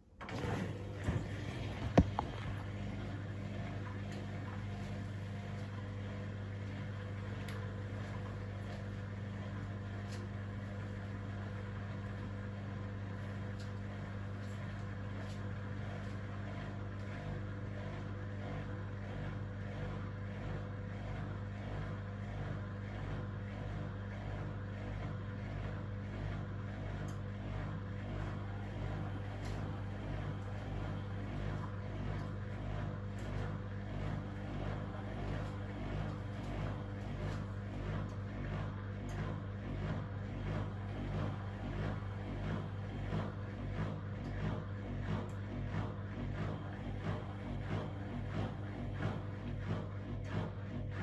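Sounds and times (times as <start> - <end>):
washing machine spinning: 0.0 - 51.0.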